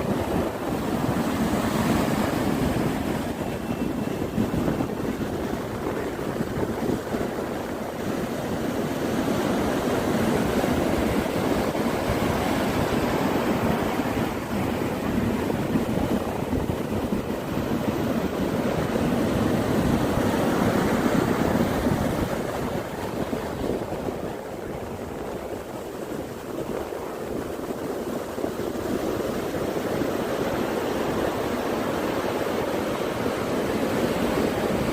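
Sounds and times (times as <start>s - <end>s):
sea surf breaking on beach: 0.0s - 34.9s
wind buffeting microphone: 0.0s - 34.9s.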